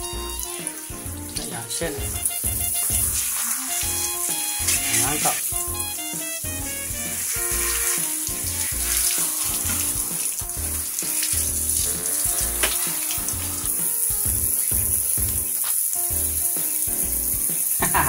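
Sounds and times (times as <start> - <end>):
background music with bass beat: 0.0 - 18.0
shower spraying on dog fur: 0.1 - 18.0.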